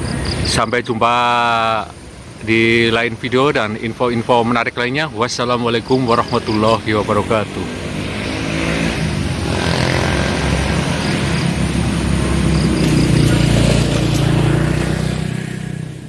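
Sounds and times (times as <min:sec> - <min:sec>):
vehicle engine passing: 0:01.3 - 0:16.0.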